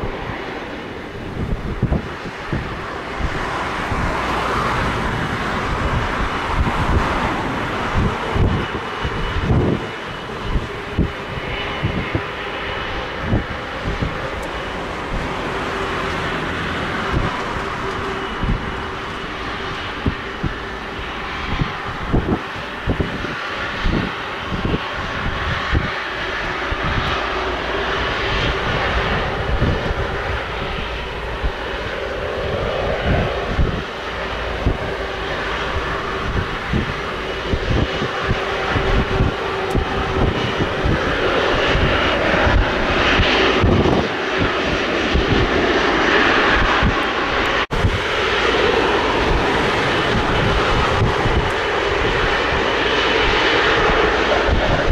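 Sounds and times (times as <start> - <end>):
jet engine whine: 0.0 - 54.9
wind buffeting microphone: 0.0 - 54.9.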